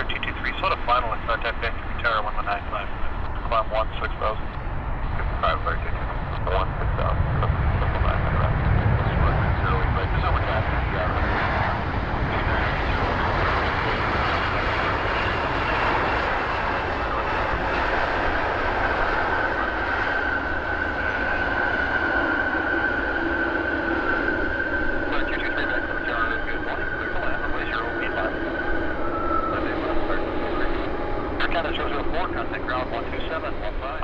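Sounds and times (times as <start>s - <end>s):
jet engines passing: 0.0s - 34.0s
steady whining tone: 0.0s - 34.0s.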